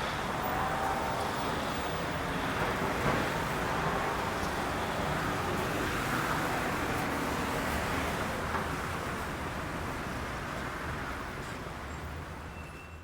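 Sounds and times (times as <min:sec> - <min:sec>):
outdoor background roar: 0:00.0 - 0:12.9.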